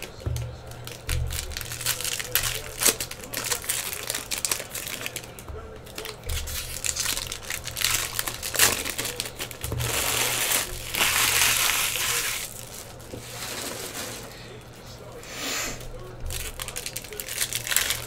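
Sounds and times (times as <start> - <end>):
foil wrappers tearing and crinkling: 0.0 - 14.4, 15.7 - 18.0.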